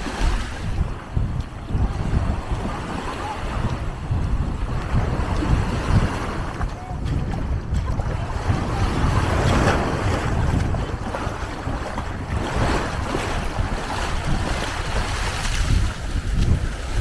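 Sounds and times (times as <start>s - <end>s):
sea waves washing on beach: 0.0s - 17.0s
wind buffeting microphone: 0.0s - 17.0s.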